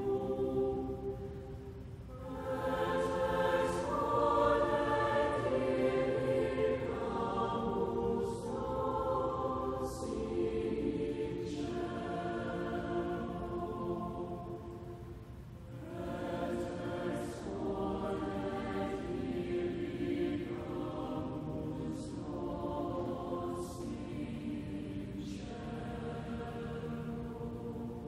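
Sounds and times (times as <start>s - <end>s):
choir singing long notes: 0.0s - 28.0s.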